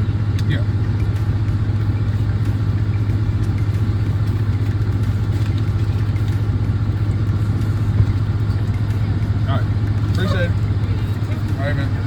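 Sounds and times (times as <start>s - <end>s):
diesel truck engine drone: 0.0s - 12.0s
road noise: 0.0s - 12.0s.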